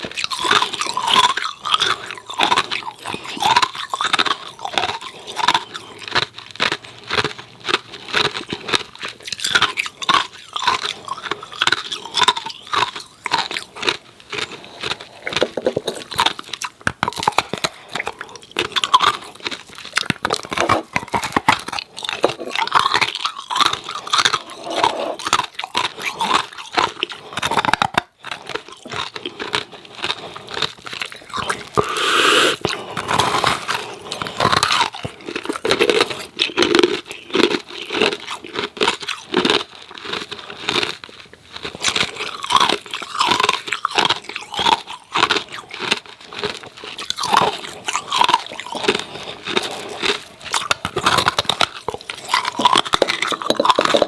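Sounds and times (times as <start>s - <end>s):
ice cubes being crunched: 0.0s - 54.0s.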